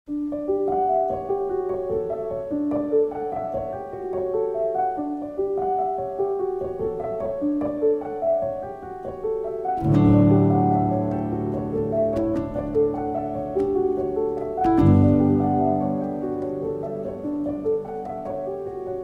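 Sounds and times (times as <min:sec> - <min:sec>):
solo piano melody: 0:00.1 - 0:19.0.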